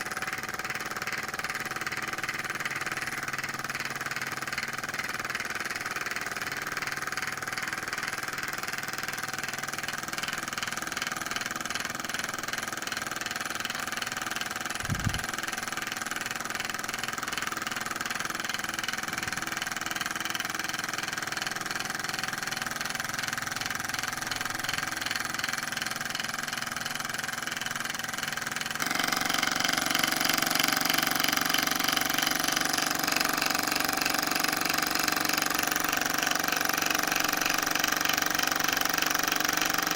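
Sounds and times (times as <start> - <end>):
model stirling engine running: 0.0 - 39.9.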